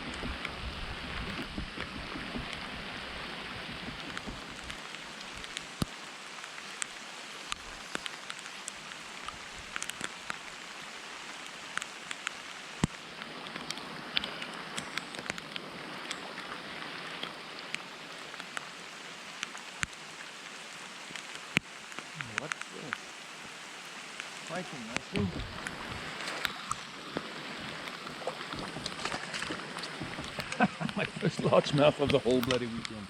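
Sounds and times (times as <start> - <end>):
rain falling steadily: 0.0 - 33.0
raindrops tapping close by: 0.0 - 33.0.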